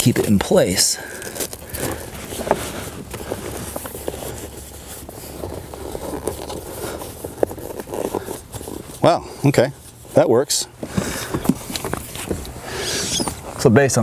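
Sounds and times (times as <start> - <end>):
plastic rustling and scraping: 0.0 - 13.7.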